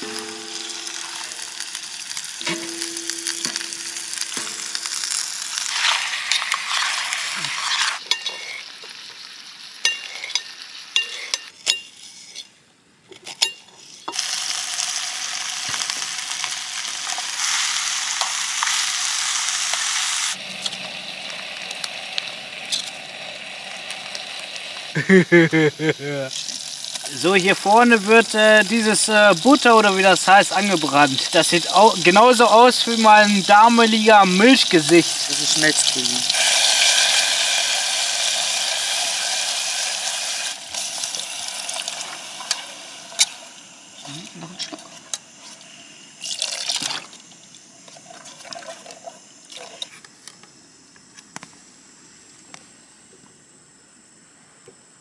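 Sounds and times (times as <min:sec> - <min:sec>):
chicken sizzling in a pot: 0:00.0 - 0:12.5, 0:13.3 - 0:50.0.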